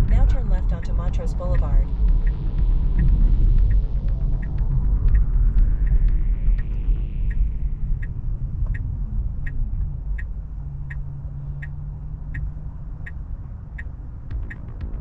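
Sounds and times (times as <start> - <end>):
cabin road noise: 0.0 - 15.0
low whine falling in pitch: 0.0 - 15.0
turn signal ticking: 0.0 - 15.0.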